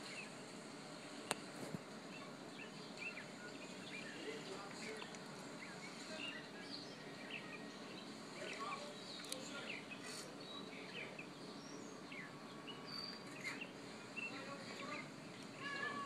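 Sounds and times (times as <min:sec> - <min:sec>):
steady hiss: 0:00.0 - 0:16.0
bird chirps: 0:02.1 - 0:16.0.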